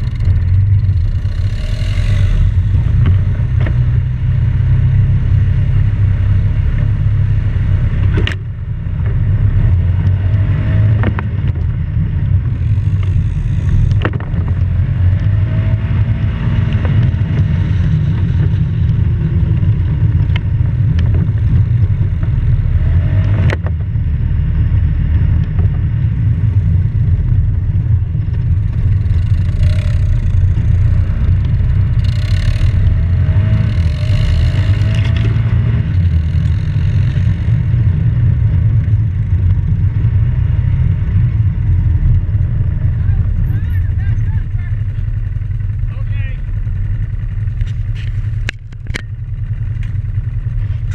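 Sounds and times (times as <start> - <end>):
off-road vehicle engine rumble: 0.0 - 50.9.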